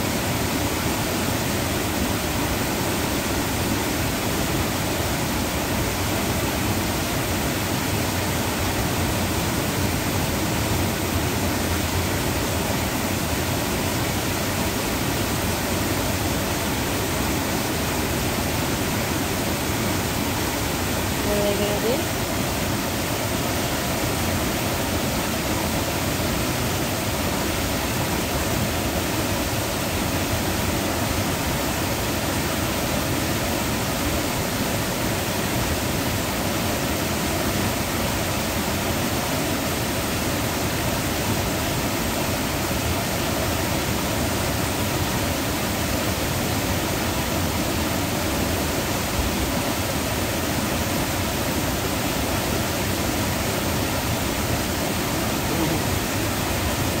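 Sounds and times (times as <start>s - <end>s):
water rushing over a dam onto rocks: 0.0s - 57.0s.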